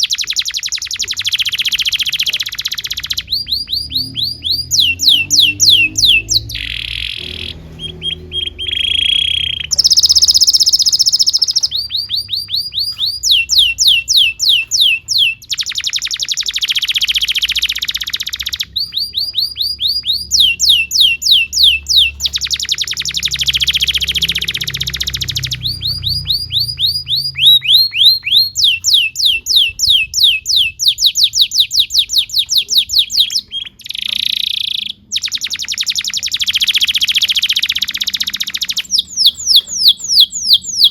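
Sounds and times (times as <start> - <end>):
canary singing with trills: 0.0 - 40.9.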